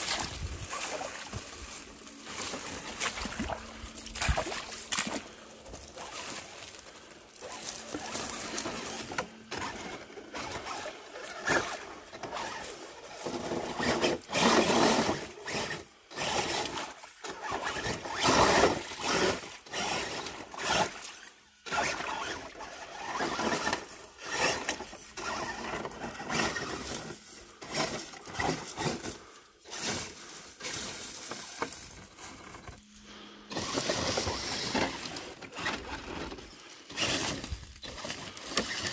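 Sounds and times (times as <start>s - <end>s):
crunching and rustling leaves: 0.0s - 38.9s
electric motor and gears running: 0.0s - 38.9s.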